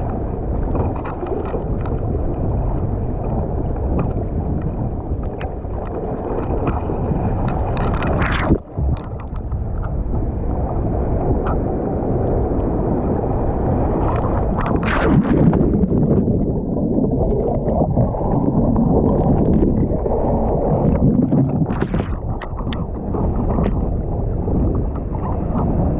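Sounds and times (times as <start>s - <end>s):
surf water splashing: 0.0s - 25.9s
wind on microphone: 0.0s - 25.9s.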